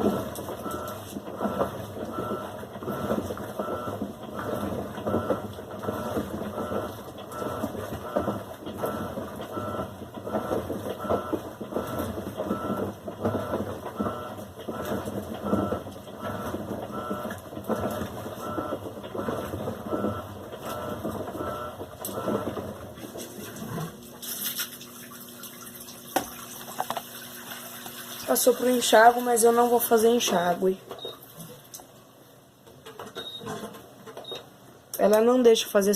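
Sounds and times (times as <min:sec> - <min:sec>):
pump hum: 0:00.0 - 0:31.7
washing machine churning: 0:00.0 - 0:32.2, 0:32.8 - 0:35.9.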